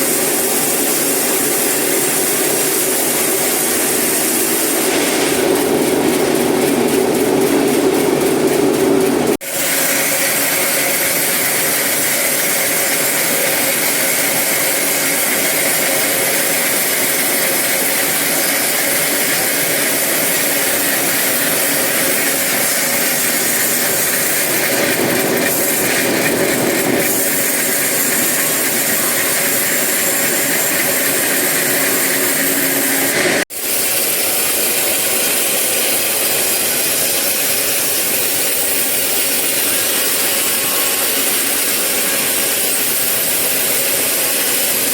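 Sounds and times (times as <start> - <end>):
sawmill saw cutting wood: 0.0 - 44.9.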